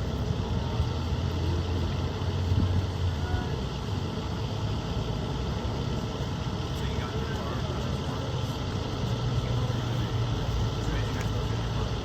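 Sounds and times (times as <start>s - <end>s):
street traffic hum: 0.0s - 12.0s
vehicle engine idling: 0.0s - 12.0s.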